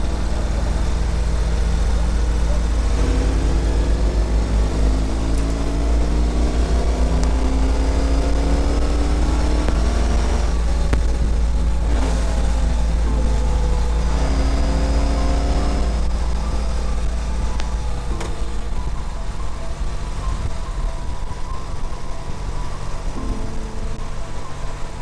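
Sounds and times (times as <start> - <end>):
low wind rumble: 0.0 - 25.0
motorcycle engine accelerating: 0.0 - 25.0.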